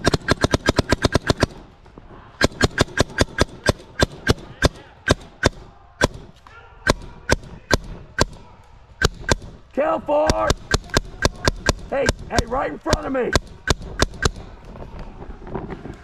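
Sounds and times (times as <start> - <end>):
paintball markers firing: 0.0 - 1.8, 2.4 - 14.8.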